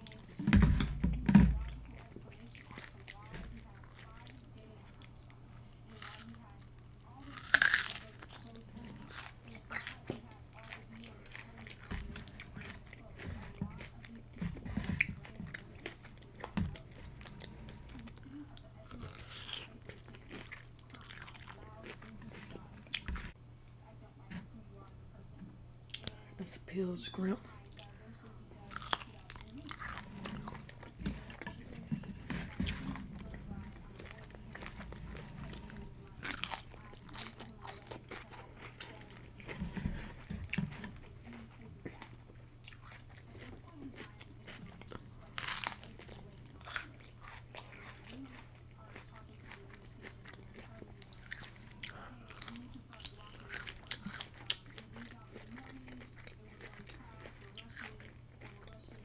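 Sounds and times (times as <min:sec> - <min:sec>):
person chewing noodles: 0:00.0 - 0:23.4, 0:28.6 - 0:59.0.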